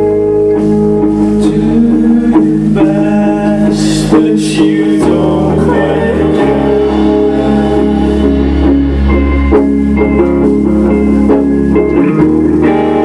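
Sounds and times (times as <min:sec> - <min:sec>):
loud amplified electric guitars: 0:00.0 - 0:13.0
steady bass: 0:00.0 - 0:13.0.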